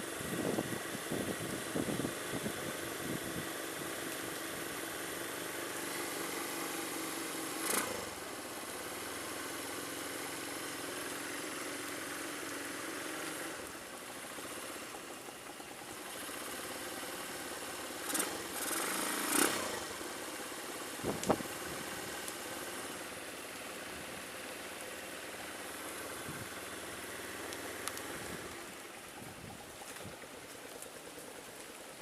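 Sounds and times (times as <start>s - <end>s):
rain hiss: 0.0s - 32.0s
vehicle engine and road noise: 0.0s - 32.0s.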